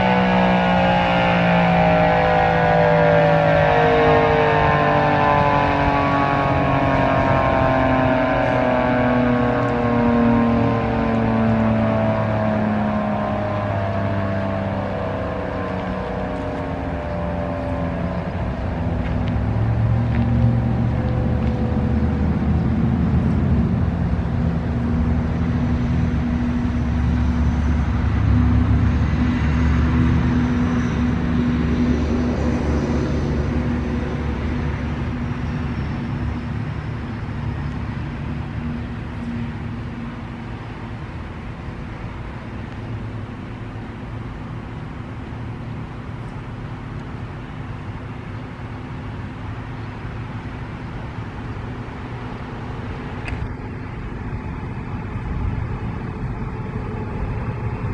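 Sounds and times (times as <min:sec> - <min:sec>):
siren winding down: 0:00.0 - 0:57.9.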